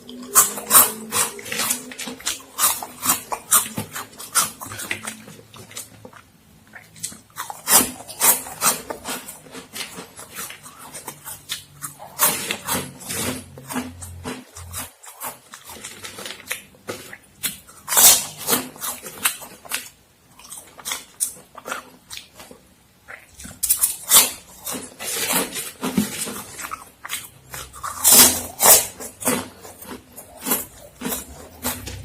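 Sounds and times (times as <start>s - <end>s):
crunching and chewing snacks: 0.0s - 32.0s.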